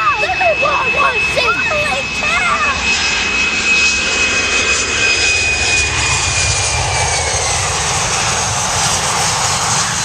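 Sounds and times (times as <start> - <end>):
high jet engine whine: 0.0 - 10.0
jet engines rushing and rumbling: 0.0 - 10.0.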